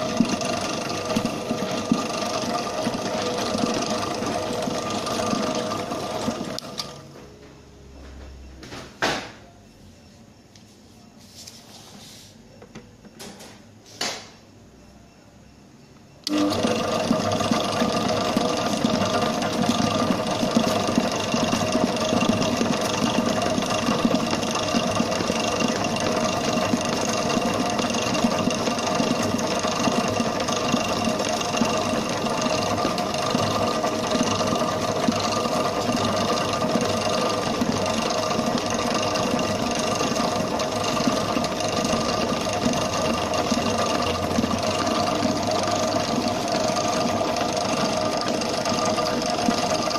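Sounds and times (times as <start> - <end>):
stand mixer motor humming: 0.0 - 7.1, 16.2 - 49.9.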